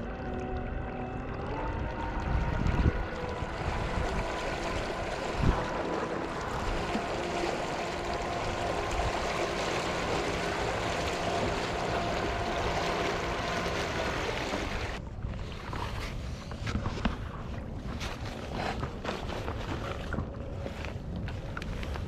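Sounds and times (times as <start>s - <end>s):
electric motor and propeller whine: 0.0s - 22.0s
rushing water: 0.0s - 22.0s.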